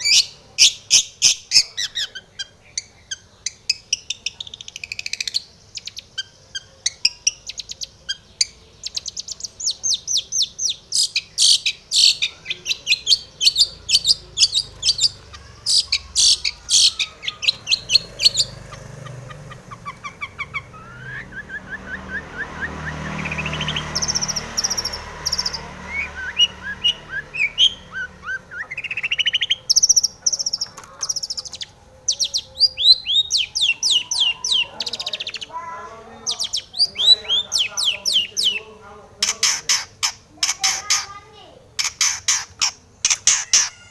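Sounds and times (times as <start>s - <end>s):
shrike singing: 0.0s - 43.9s.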